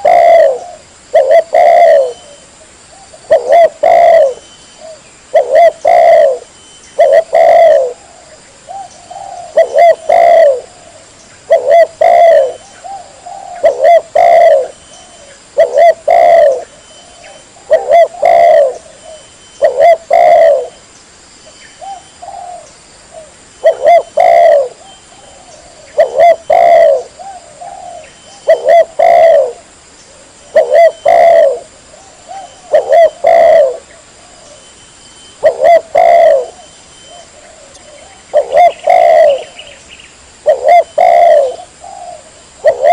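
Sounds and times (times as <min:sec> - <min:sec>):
dove cooing: 0:00.0 - 0:20.8, 0:21.8 - 0:34.8, 0:35.4 - 0:39.8, 0:40.4 - 0:42.9.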